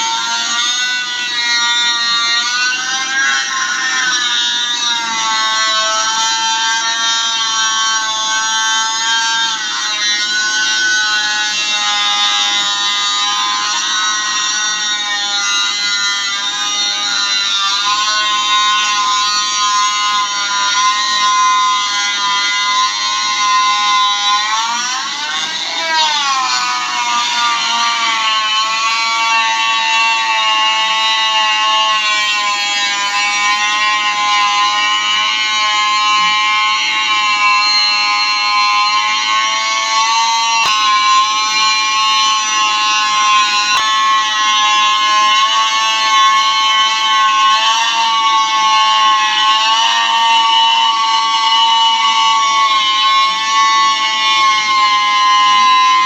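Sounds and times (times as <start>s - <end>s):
electric grinder whining: 0.0s - 56.0s.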